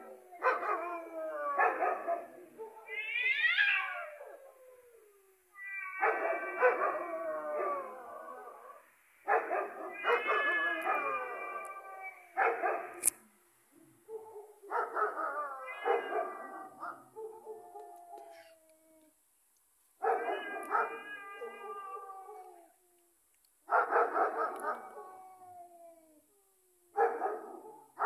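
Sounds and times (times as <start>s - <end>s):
dogs barking and howling: 0.0s - 4.8s, 5.7s - 13.0s, 14.1s - 18.5s, 20.0s - 22.7s, 23.7s - 25.9s, 26.9s - 28.0s.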